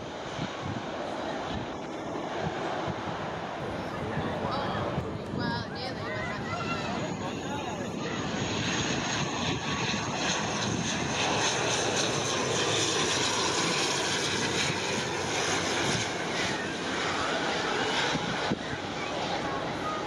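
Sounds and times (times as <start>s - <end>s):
turboprop airliner passing: 0.0s - 20.0s.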